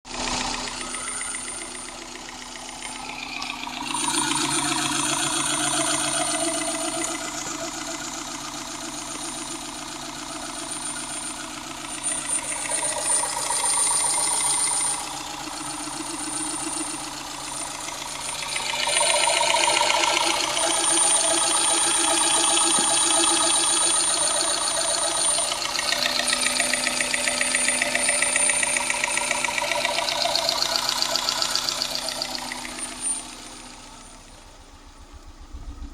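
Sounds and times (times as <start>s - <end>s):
petrol engine running: 0.1s - 35.9s.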